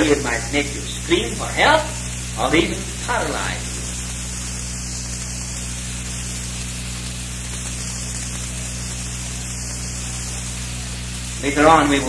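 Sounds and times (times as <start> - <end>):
low even hum: 0.0 - 12.0
steady hiss: 0.0 - 12.0.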